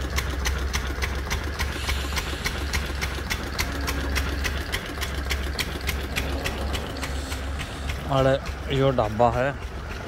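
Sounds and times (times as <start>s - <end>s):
engine idling with ticking: 0.0s - 10.0s.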